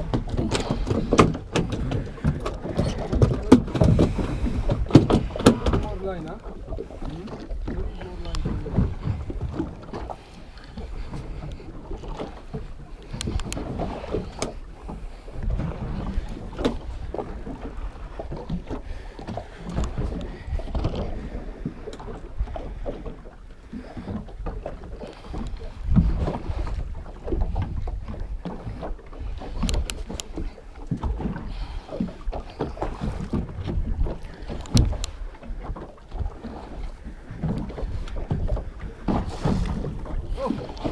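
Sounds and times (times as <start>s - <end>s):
water slapping boat hull: 0.0s - 40.9s.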